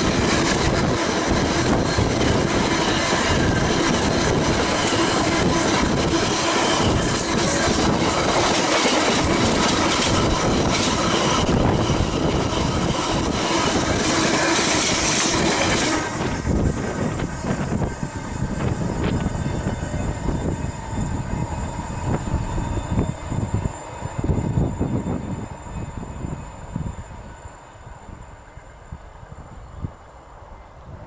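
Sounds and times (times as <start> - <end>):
train wheels clattering on rails: 0.0 - 25.4
freight train wagons rattling past: 0.0 - 30.6
clicks of departing train: 0.0 - 30.9.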